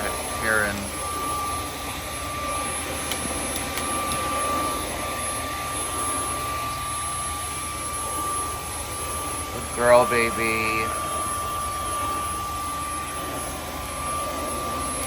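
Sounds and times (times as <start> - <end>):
vacuum cleaner whining: 0.0 - 15.0.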